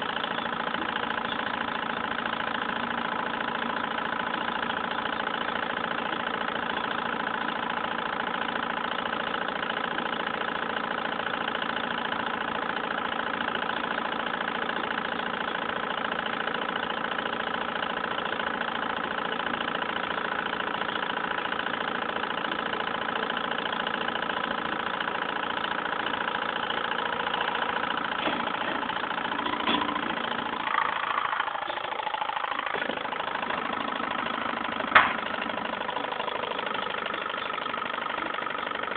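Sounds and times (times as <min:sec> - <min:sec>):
engine mechanical hum: 0:00.0 - 0:38.9.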